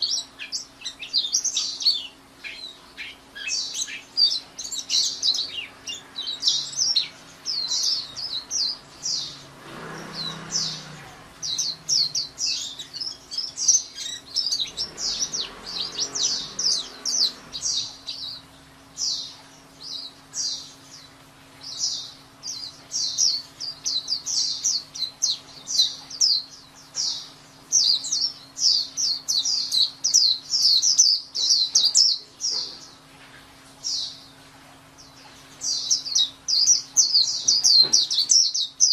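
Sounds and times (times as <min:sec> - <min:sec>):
bird singing high thin chirps: 0:00.0 - 0:33.0, 0:35.1 - 0:38.9.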